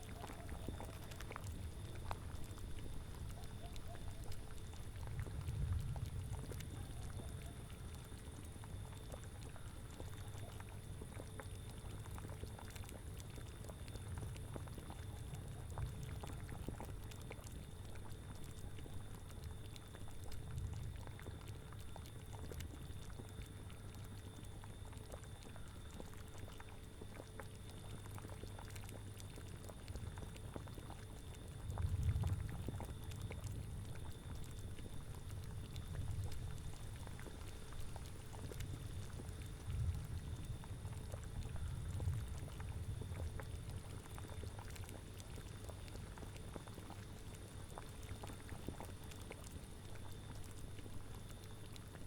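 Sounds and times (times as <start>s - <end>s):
low rumble of wind: 0.0s - 23.9s, 28.1s - 52.0s
cauldron boiling: 0.0s - 52.0s.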